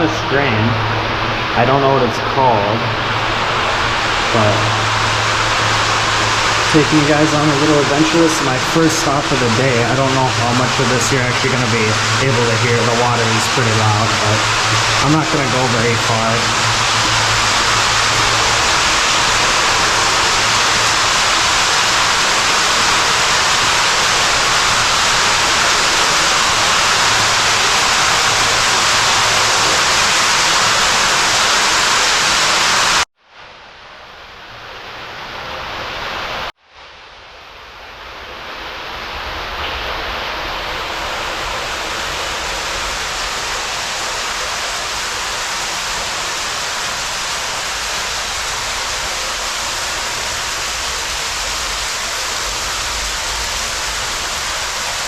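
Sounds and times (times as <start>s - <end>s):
water rushing through storm drain: 0.0s - 33.1s, 38.3s - 55.0s.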